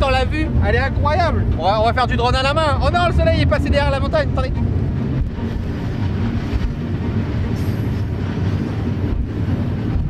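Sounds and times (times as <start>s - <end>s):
freight train running: 0.0s - 10.0s.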